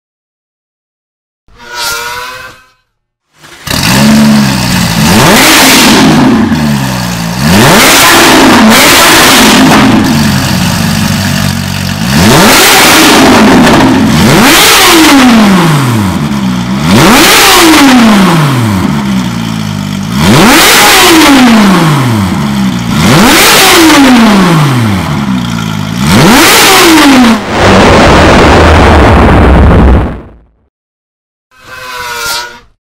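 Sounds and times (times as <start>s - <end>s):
car engine revving: 3.4s - 30.3s.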